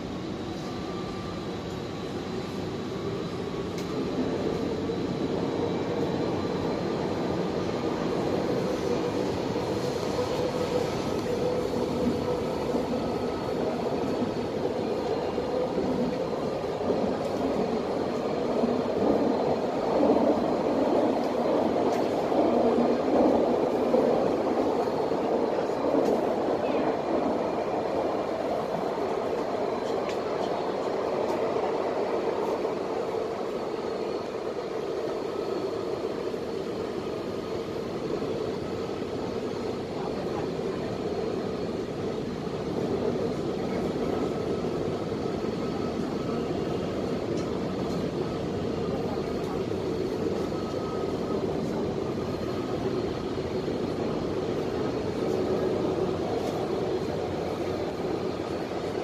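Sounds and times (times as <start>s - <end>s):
train wheels and motors rumbling: 0.0s - 59.0s.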